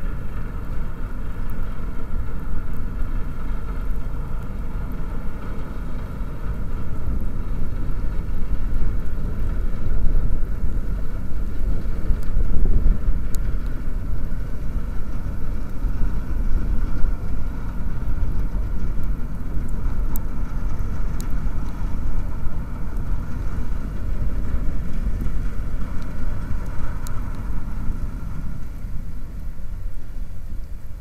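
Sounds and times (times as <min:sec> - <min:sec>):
faint hum: 0:00.0 - 0:31.0
ship engines rumbling: 0:00.0 - 0:31.0.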